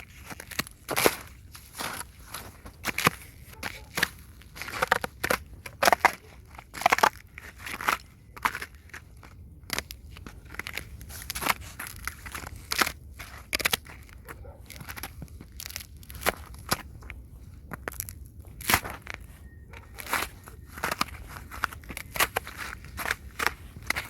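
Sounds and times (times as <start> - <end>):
scratching on icy snow: 0.0 - 24.0.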